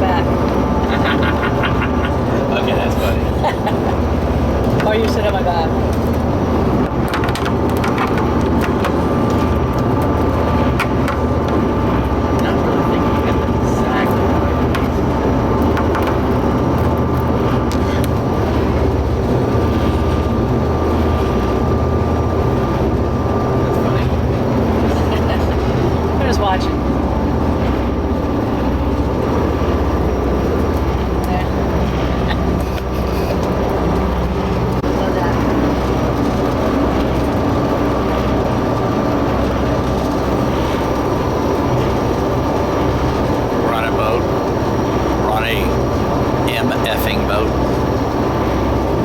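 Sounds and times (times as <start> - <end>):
ferry engines droning: 0.0 - 49.0
thin steady whine: 0.0 - 49.0.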